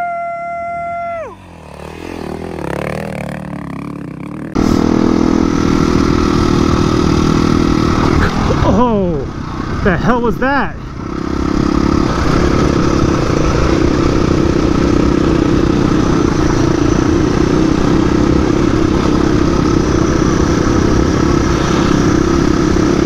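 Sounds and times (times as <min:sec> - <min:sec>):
dirt bike engine running: 0:00.1 - 0:23.0.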